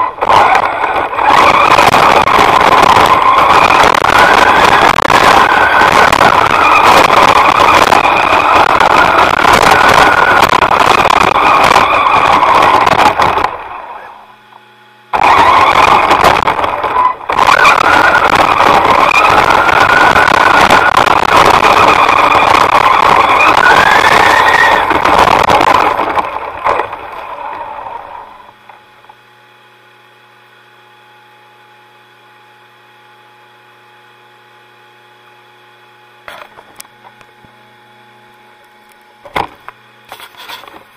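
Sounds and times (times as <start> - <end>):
drone motors whining: 0.0 - 31.6, 35.2 - 40.9.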